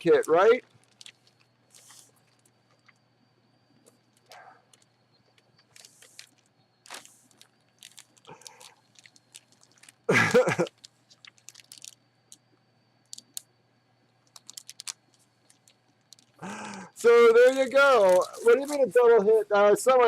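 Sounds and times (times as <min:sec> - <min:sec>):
packaging crinkling and rustling: 0:00.0 - 0:03.0, 0:03.8 - 0:12.4, 0:14.2 - 0:19.0.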